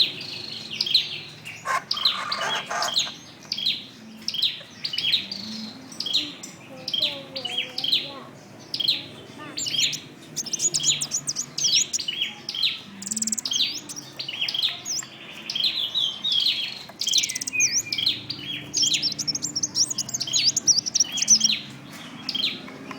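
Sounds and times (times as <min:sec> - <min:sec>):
bird singing rapid chirps: 0:00.0 - 0:22.9.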